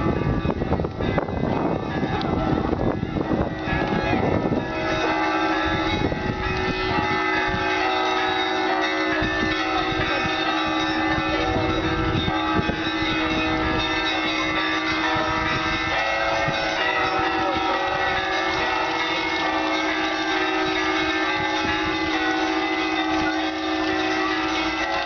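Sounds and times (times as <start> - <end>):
church bells pealing: 0.0 - 25.0
steady bell tone: 0.0 - 25.0.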